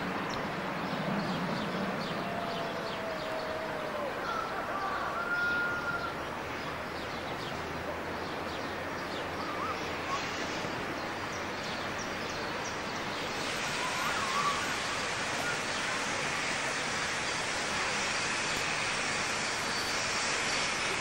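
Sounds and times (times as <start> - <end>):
steam locomotive rushing: 0.0 - 21.0.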